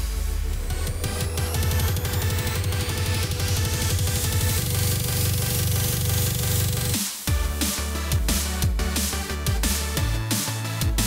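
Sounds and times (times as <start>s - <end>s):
electronic music with pulsing bass: 0.0s - 11.0s.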